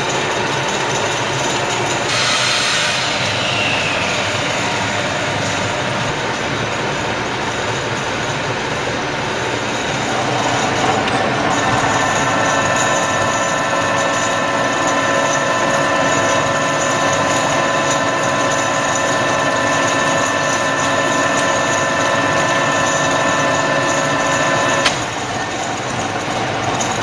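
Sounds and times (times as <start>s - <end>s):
drilling machine whining: 0.0s - 27.0s.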